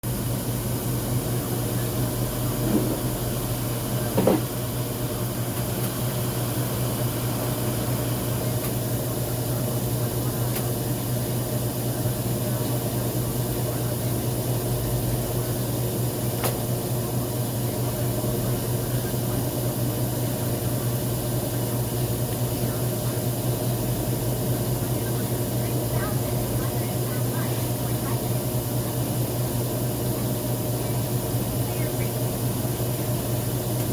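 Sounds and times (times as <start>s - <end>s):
electric blower fan humming: 0.0s - 33.9s.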